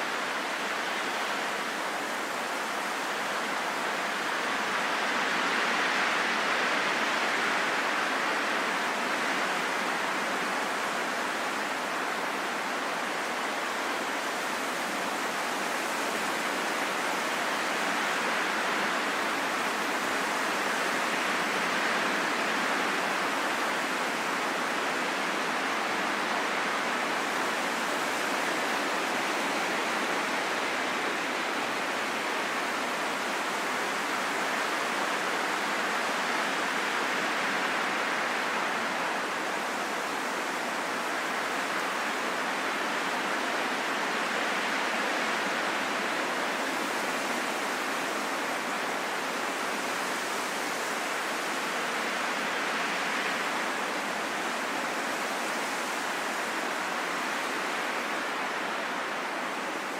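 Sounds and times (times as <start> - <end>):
rain in a forest: 0.0 - 59.9.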